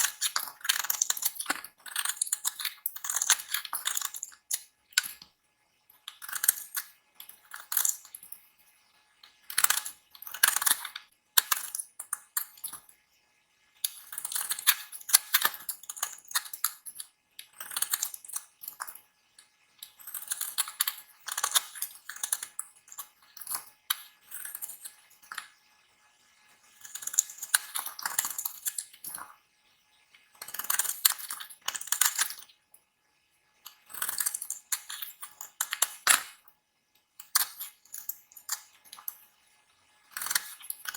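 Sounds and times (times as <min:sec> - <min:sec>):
knife cutting soap: 0:00.0 - 0:05.3, 0:06.0 - 0:08.4, 0:09.2 - 0:12.9, 0:13.9 - 0:19.0, 0:19.8 - 0:25.6, 0:26.7 - 0:29.4, 0:30.4 - 0:32.6, 0:33.6 - 0:36.5, 0:37.2 - 0:39.2, 0:40.1 - 0:40.9.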